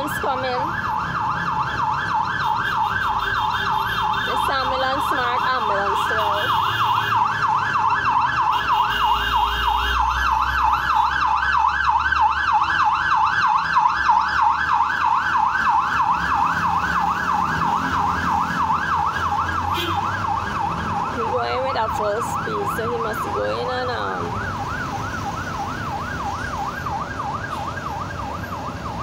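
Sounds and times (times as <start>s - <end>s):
ambulance siren yelping: 0.0s - 29.0s
traffic rumble: 0.0s - 29.0s.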